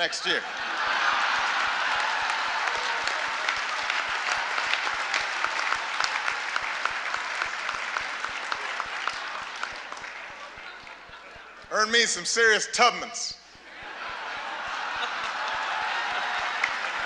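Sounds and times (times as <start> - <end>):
large audience applauding: 0.0 - 11.7, 13.6 - 17.0.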